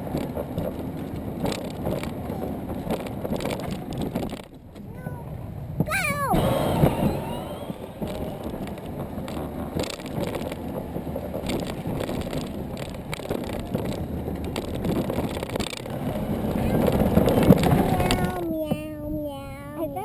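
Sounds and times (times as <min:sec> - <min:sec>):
kart wheels rumbling on pavement: 0:00.0 - 0:20.0
knocks and rattles over bumps: 0:00.0 - 0:20.0.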